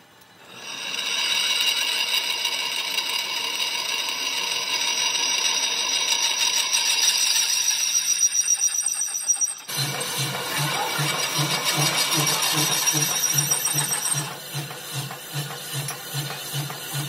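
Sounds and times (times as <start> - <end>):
drill boring through metal: 0.4 - 17.0.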